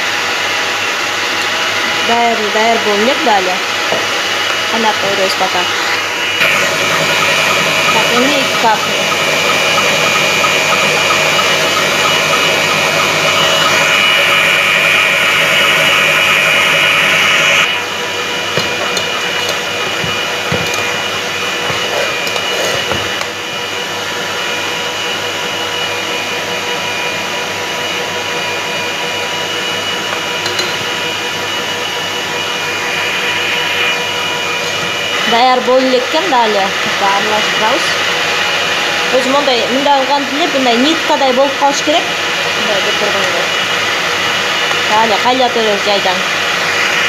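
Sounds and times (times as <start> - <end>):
stand mixer whirring: 0.0 - 47.0.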